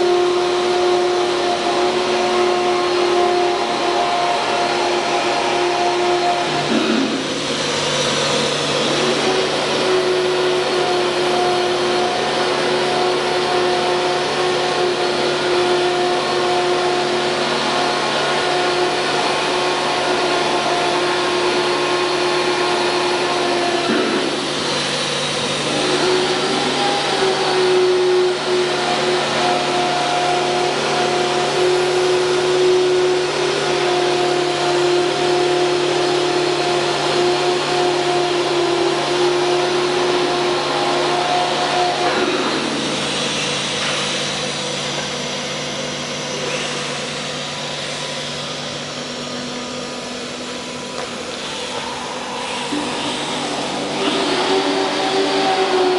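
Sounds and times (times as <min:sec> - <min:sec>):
pitched machine whine: 0:00.0 - 0:55.9
router machine mechanical hum: 0:00.0 - 0:55.9.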